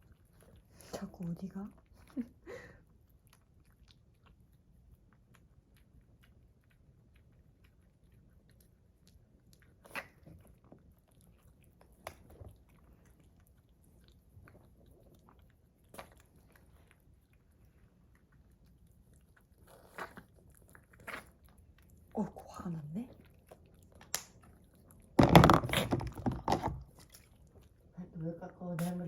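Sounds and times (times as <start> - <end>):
small dog chewing: 0.0 - 26.2, 26.8 - 29.0.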